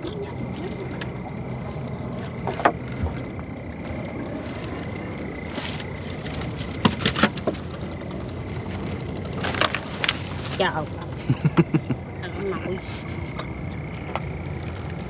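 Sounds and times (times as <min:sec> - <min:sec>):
boat engine running: 0:00.0 - 0:15.0
hum of water: 0:00.0 - 0:15.0.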